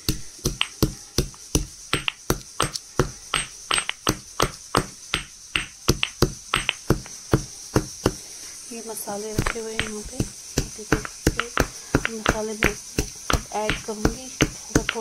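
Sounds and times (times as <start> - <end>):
pods pounded by hand: 0.0 - 8.3, 9.3 - 15.0.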